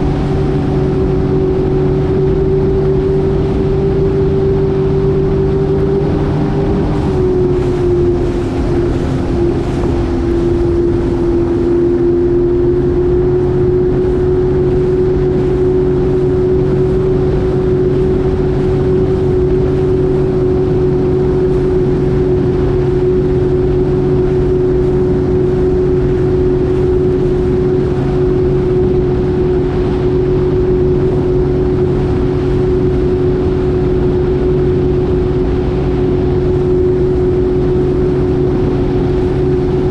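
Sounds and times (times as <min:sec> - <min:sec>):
jet ski engine running: 0:00.0 - 0:39.9
water rushing past hull: 0:00.0 - 0:39.9.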